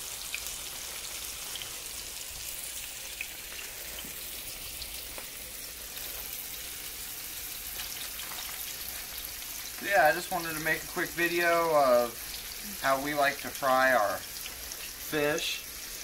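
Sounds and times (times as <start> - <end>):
fish sizzling in hot oil: 0.0 - 16.0
oil popping and crackling: 0.0 - 16.0.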